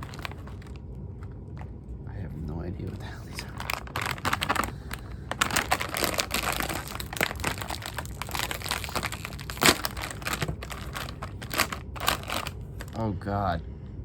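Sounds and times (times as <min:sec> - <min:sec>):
snack packet crinkling: 0:00.0 - 0:01.8, 0:02.8 - 0:13.0.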